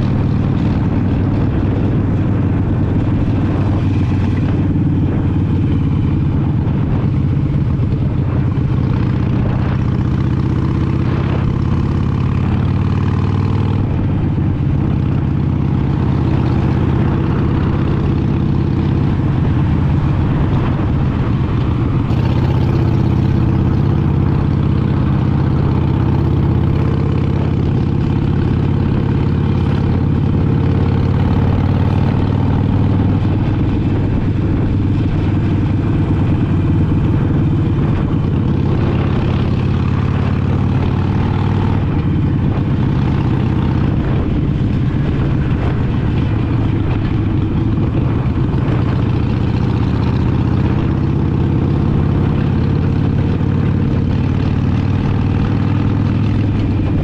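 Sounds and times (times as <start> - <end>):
motorcycle engine running steadily: 0.0 - 57.0.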